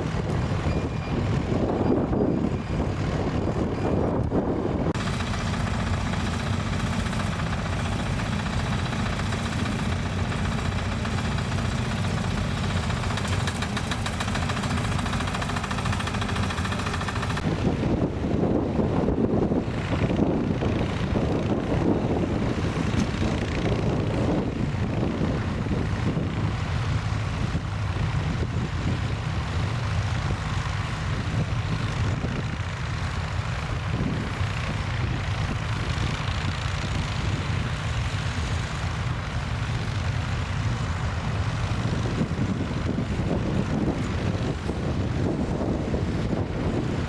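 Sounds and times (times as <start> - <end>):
tractor engine running: 0.0 - 47.0
wind buffeting microphone: 0.0 - 47.0.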